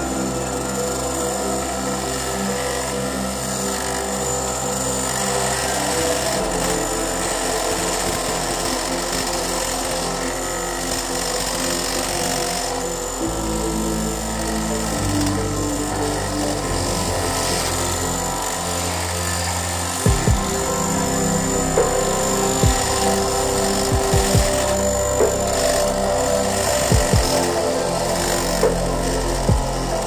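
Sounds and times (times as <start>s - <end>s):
background music: 0.0s - 30.0s
electric motor running: 0.0s - 30.0s.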